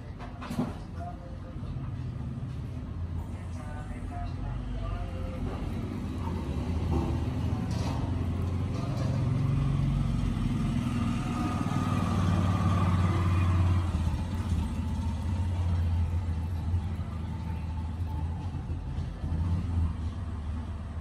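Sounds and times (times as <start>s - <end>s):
low rumble of vehicle noise: 0.0s - 21.0s.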